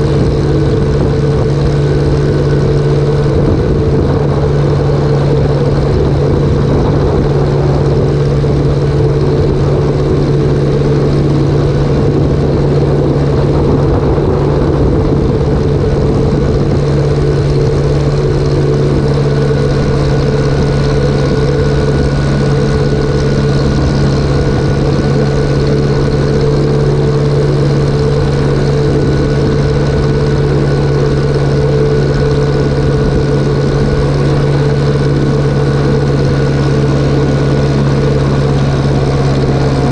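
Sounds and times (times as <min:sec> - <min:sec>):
machinery engine running steadily: 0:00.0 - 0:39.9.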